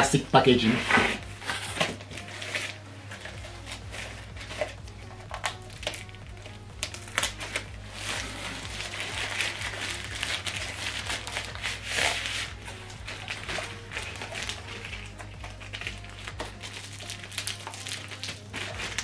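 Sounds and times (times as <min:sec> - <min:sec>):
background music: 0:00.0 - 0:19.0
plastic wrap crinkling: 0:00.0 - 0:19.0.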